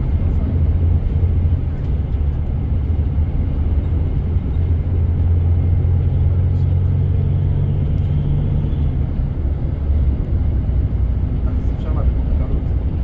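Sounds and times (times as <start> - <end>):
coach engine and road noise: 0.0 - 13.0.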